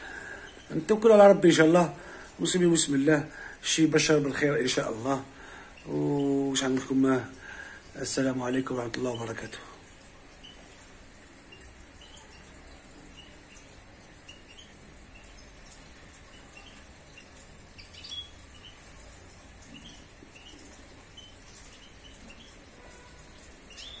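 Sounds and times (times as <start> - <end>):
goldfinches chirping: 0.0 - 8.3, 9.0 - 24.0.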